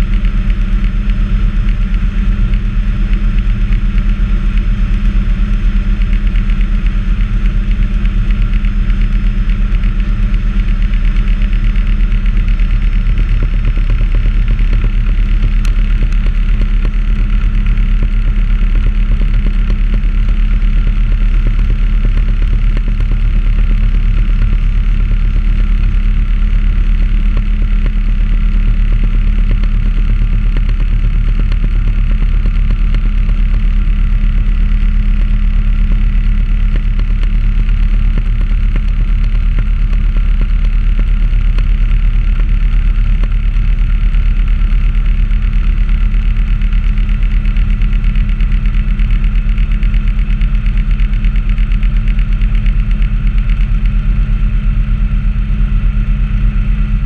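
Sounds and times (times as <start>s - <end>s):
helicopter rotor beat: 0.0s - 57.0s
turbine engine whine: 0.0s - 57.0s.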